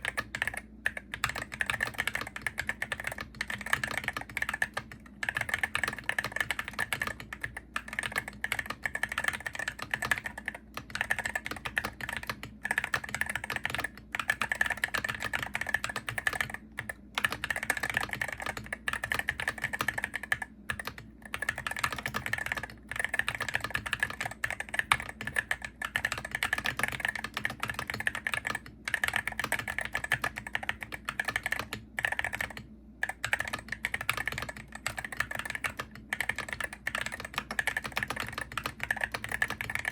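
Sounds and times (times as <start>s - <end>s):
keyboard typing clicks: 0.0s - 39.9s.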